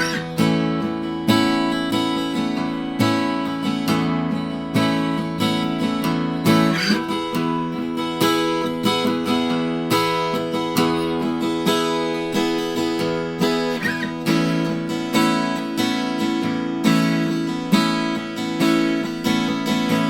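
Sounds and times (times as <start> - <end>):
acoustic guitar strummed chords: 0.0 - 20.0.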